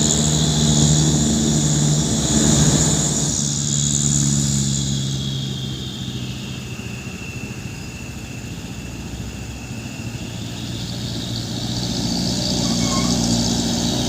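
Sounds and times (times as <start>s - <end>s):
faint high whine: 0.0s - 14.0s
truck diesel engine running: 0.0s - 14.0s.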